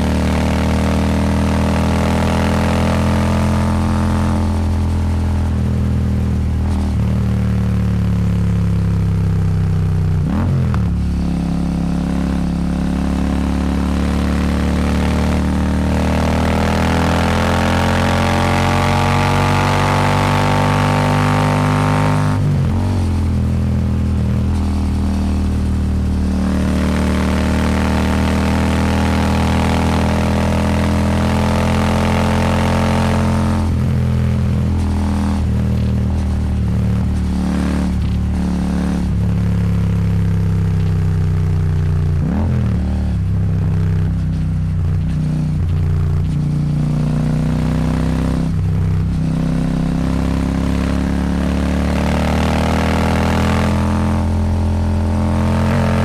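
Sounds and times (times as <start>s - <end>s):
motorcycle engine on highway: 0.0s - 56.0s.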